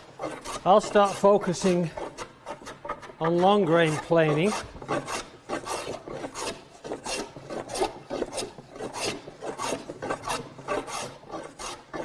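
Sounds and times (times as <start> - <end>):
plane shaving wood: 0.0 - 12.0.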